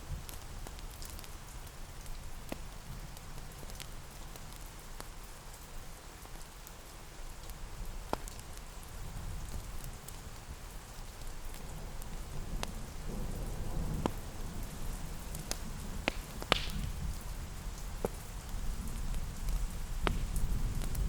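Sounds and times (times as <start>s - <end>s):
steady rain: 0.0s - 21.0s
wood fire crackling and popping: 0.1s - 5.6s, 7.4s - 10.4s, 11.0s - 21.0s.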